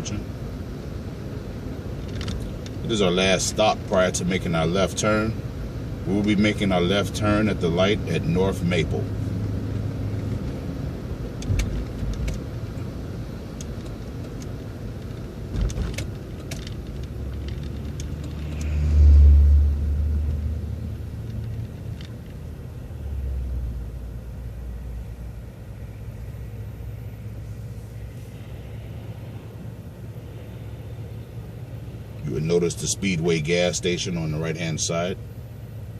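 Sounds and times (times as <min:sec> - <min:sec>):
bus engine rumble: 0:00.0 - 0:35.9.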